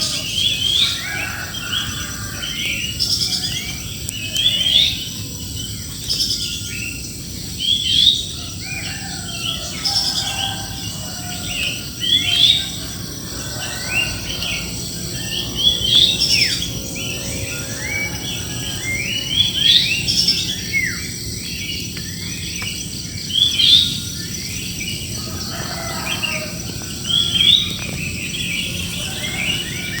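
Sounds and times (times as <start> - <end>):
birds chirping and calling: 0.0 - 30.0.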